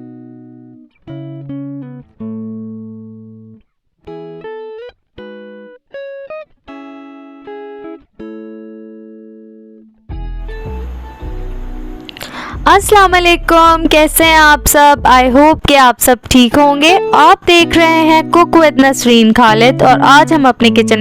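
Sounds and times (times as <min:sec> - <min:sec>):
plucked guitar-like melody: 0:00.0 - 0:21.0.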